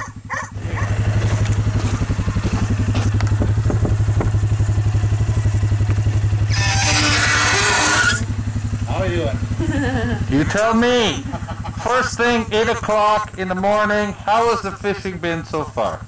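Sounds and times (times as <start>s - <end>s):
small vehicle engine pulling away: 0.0s - 16.0s.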